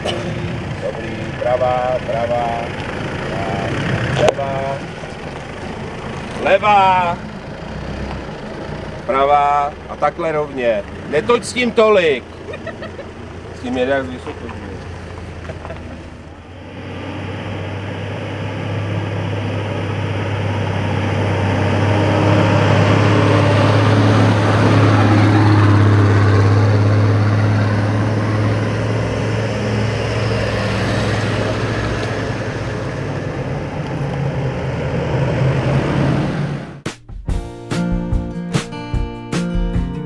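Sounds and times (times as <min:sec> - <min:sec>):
vehicle engine driving: 0:00.0 - 0:36.8.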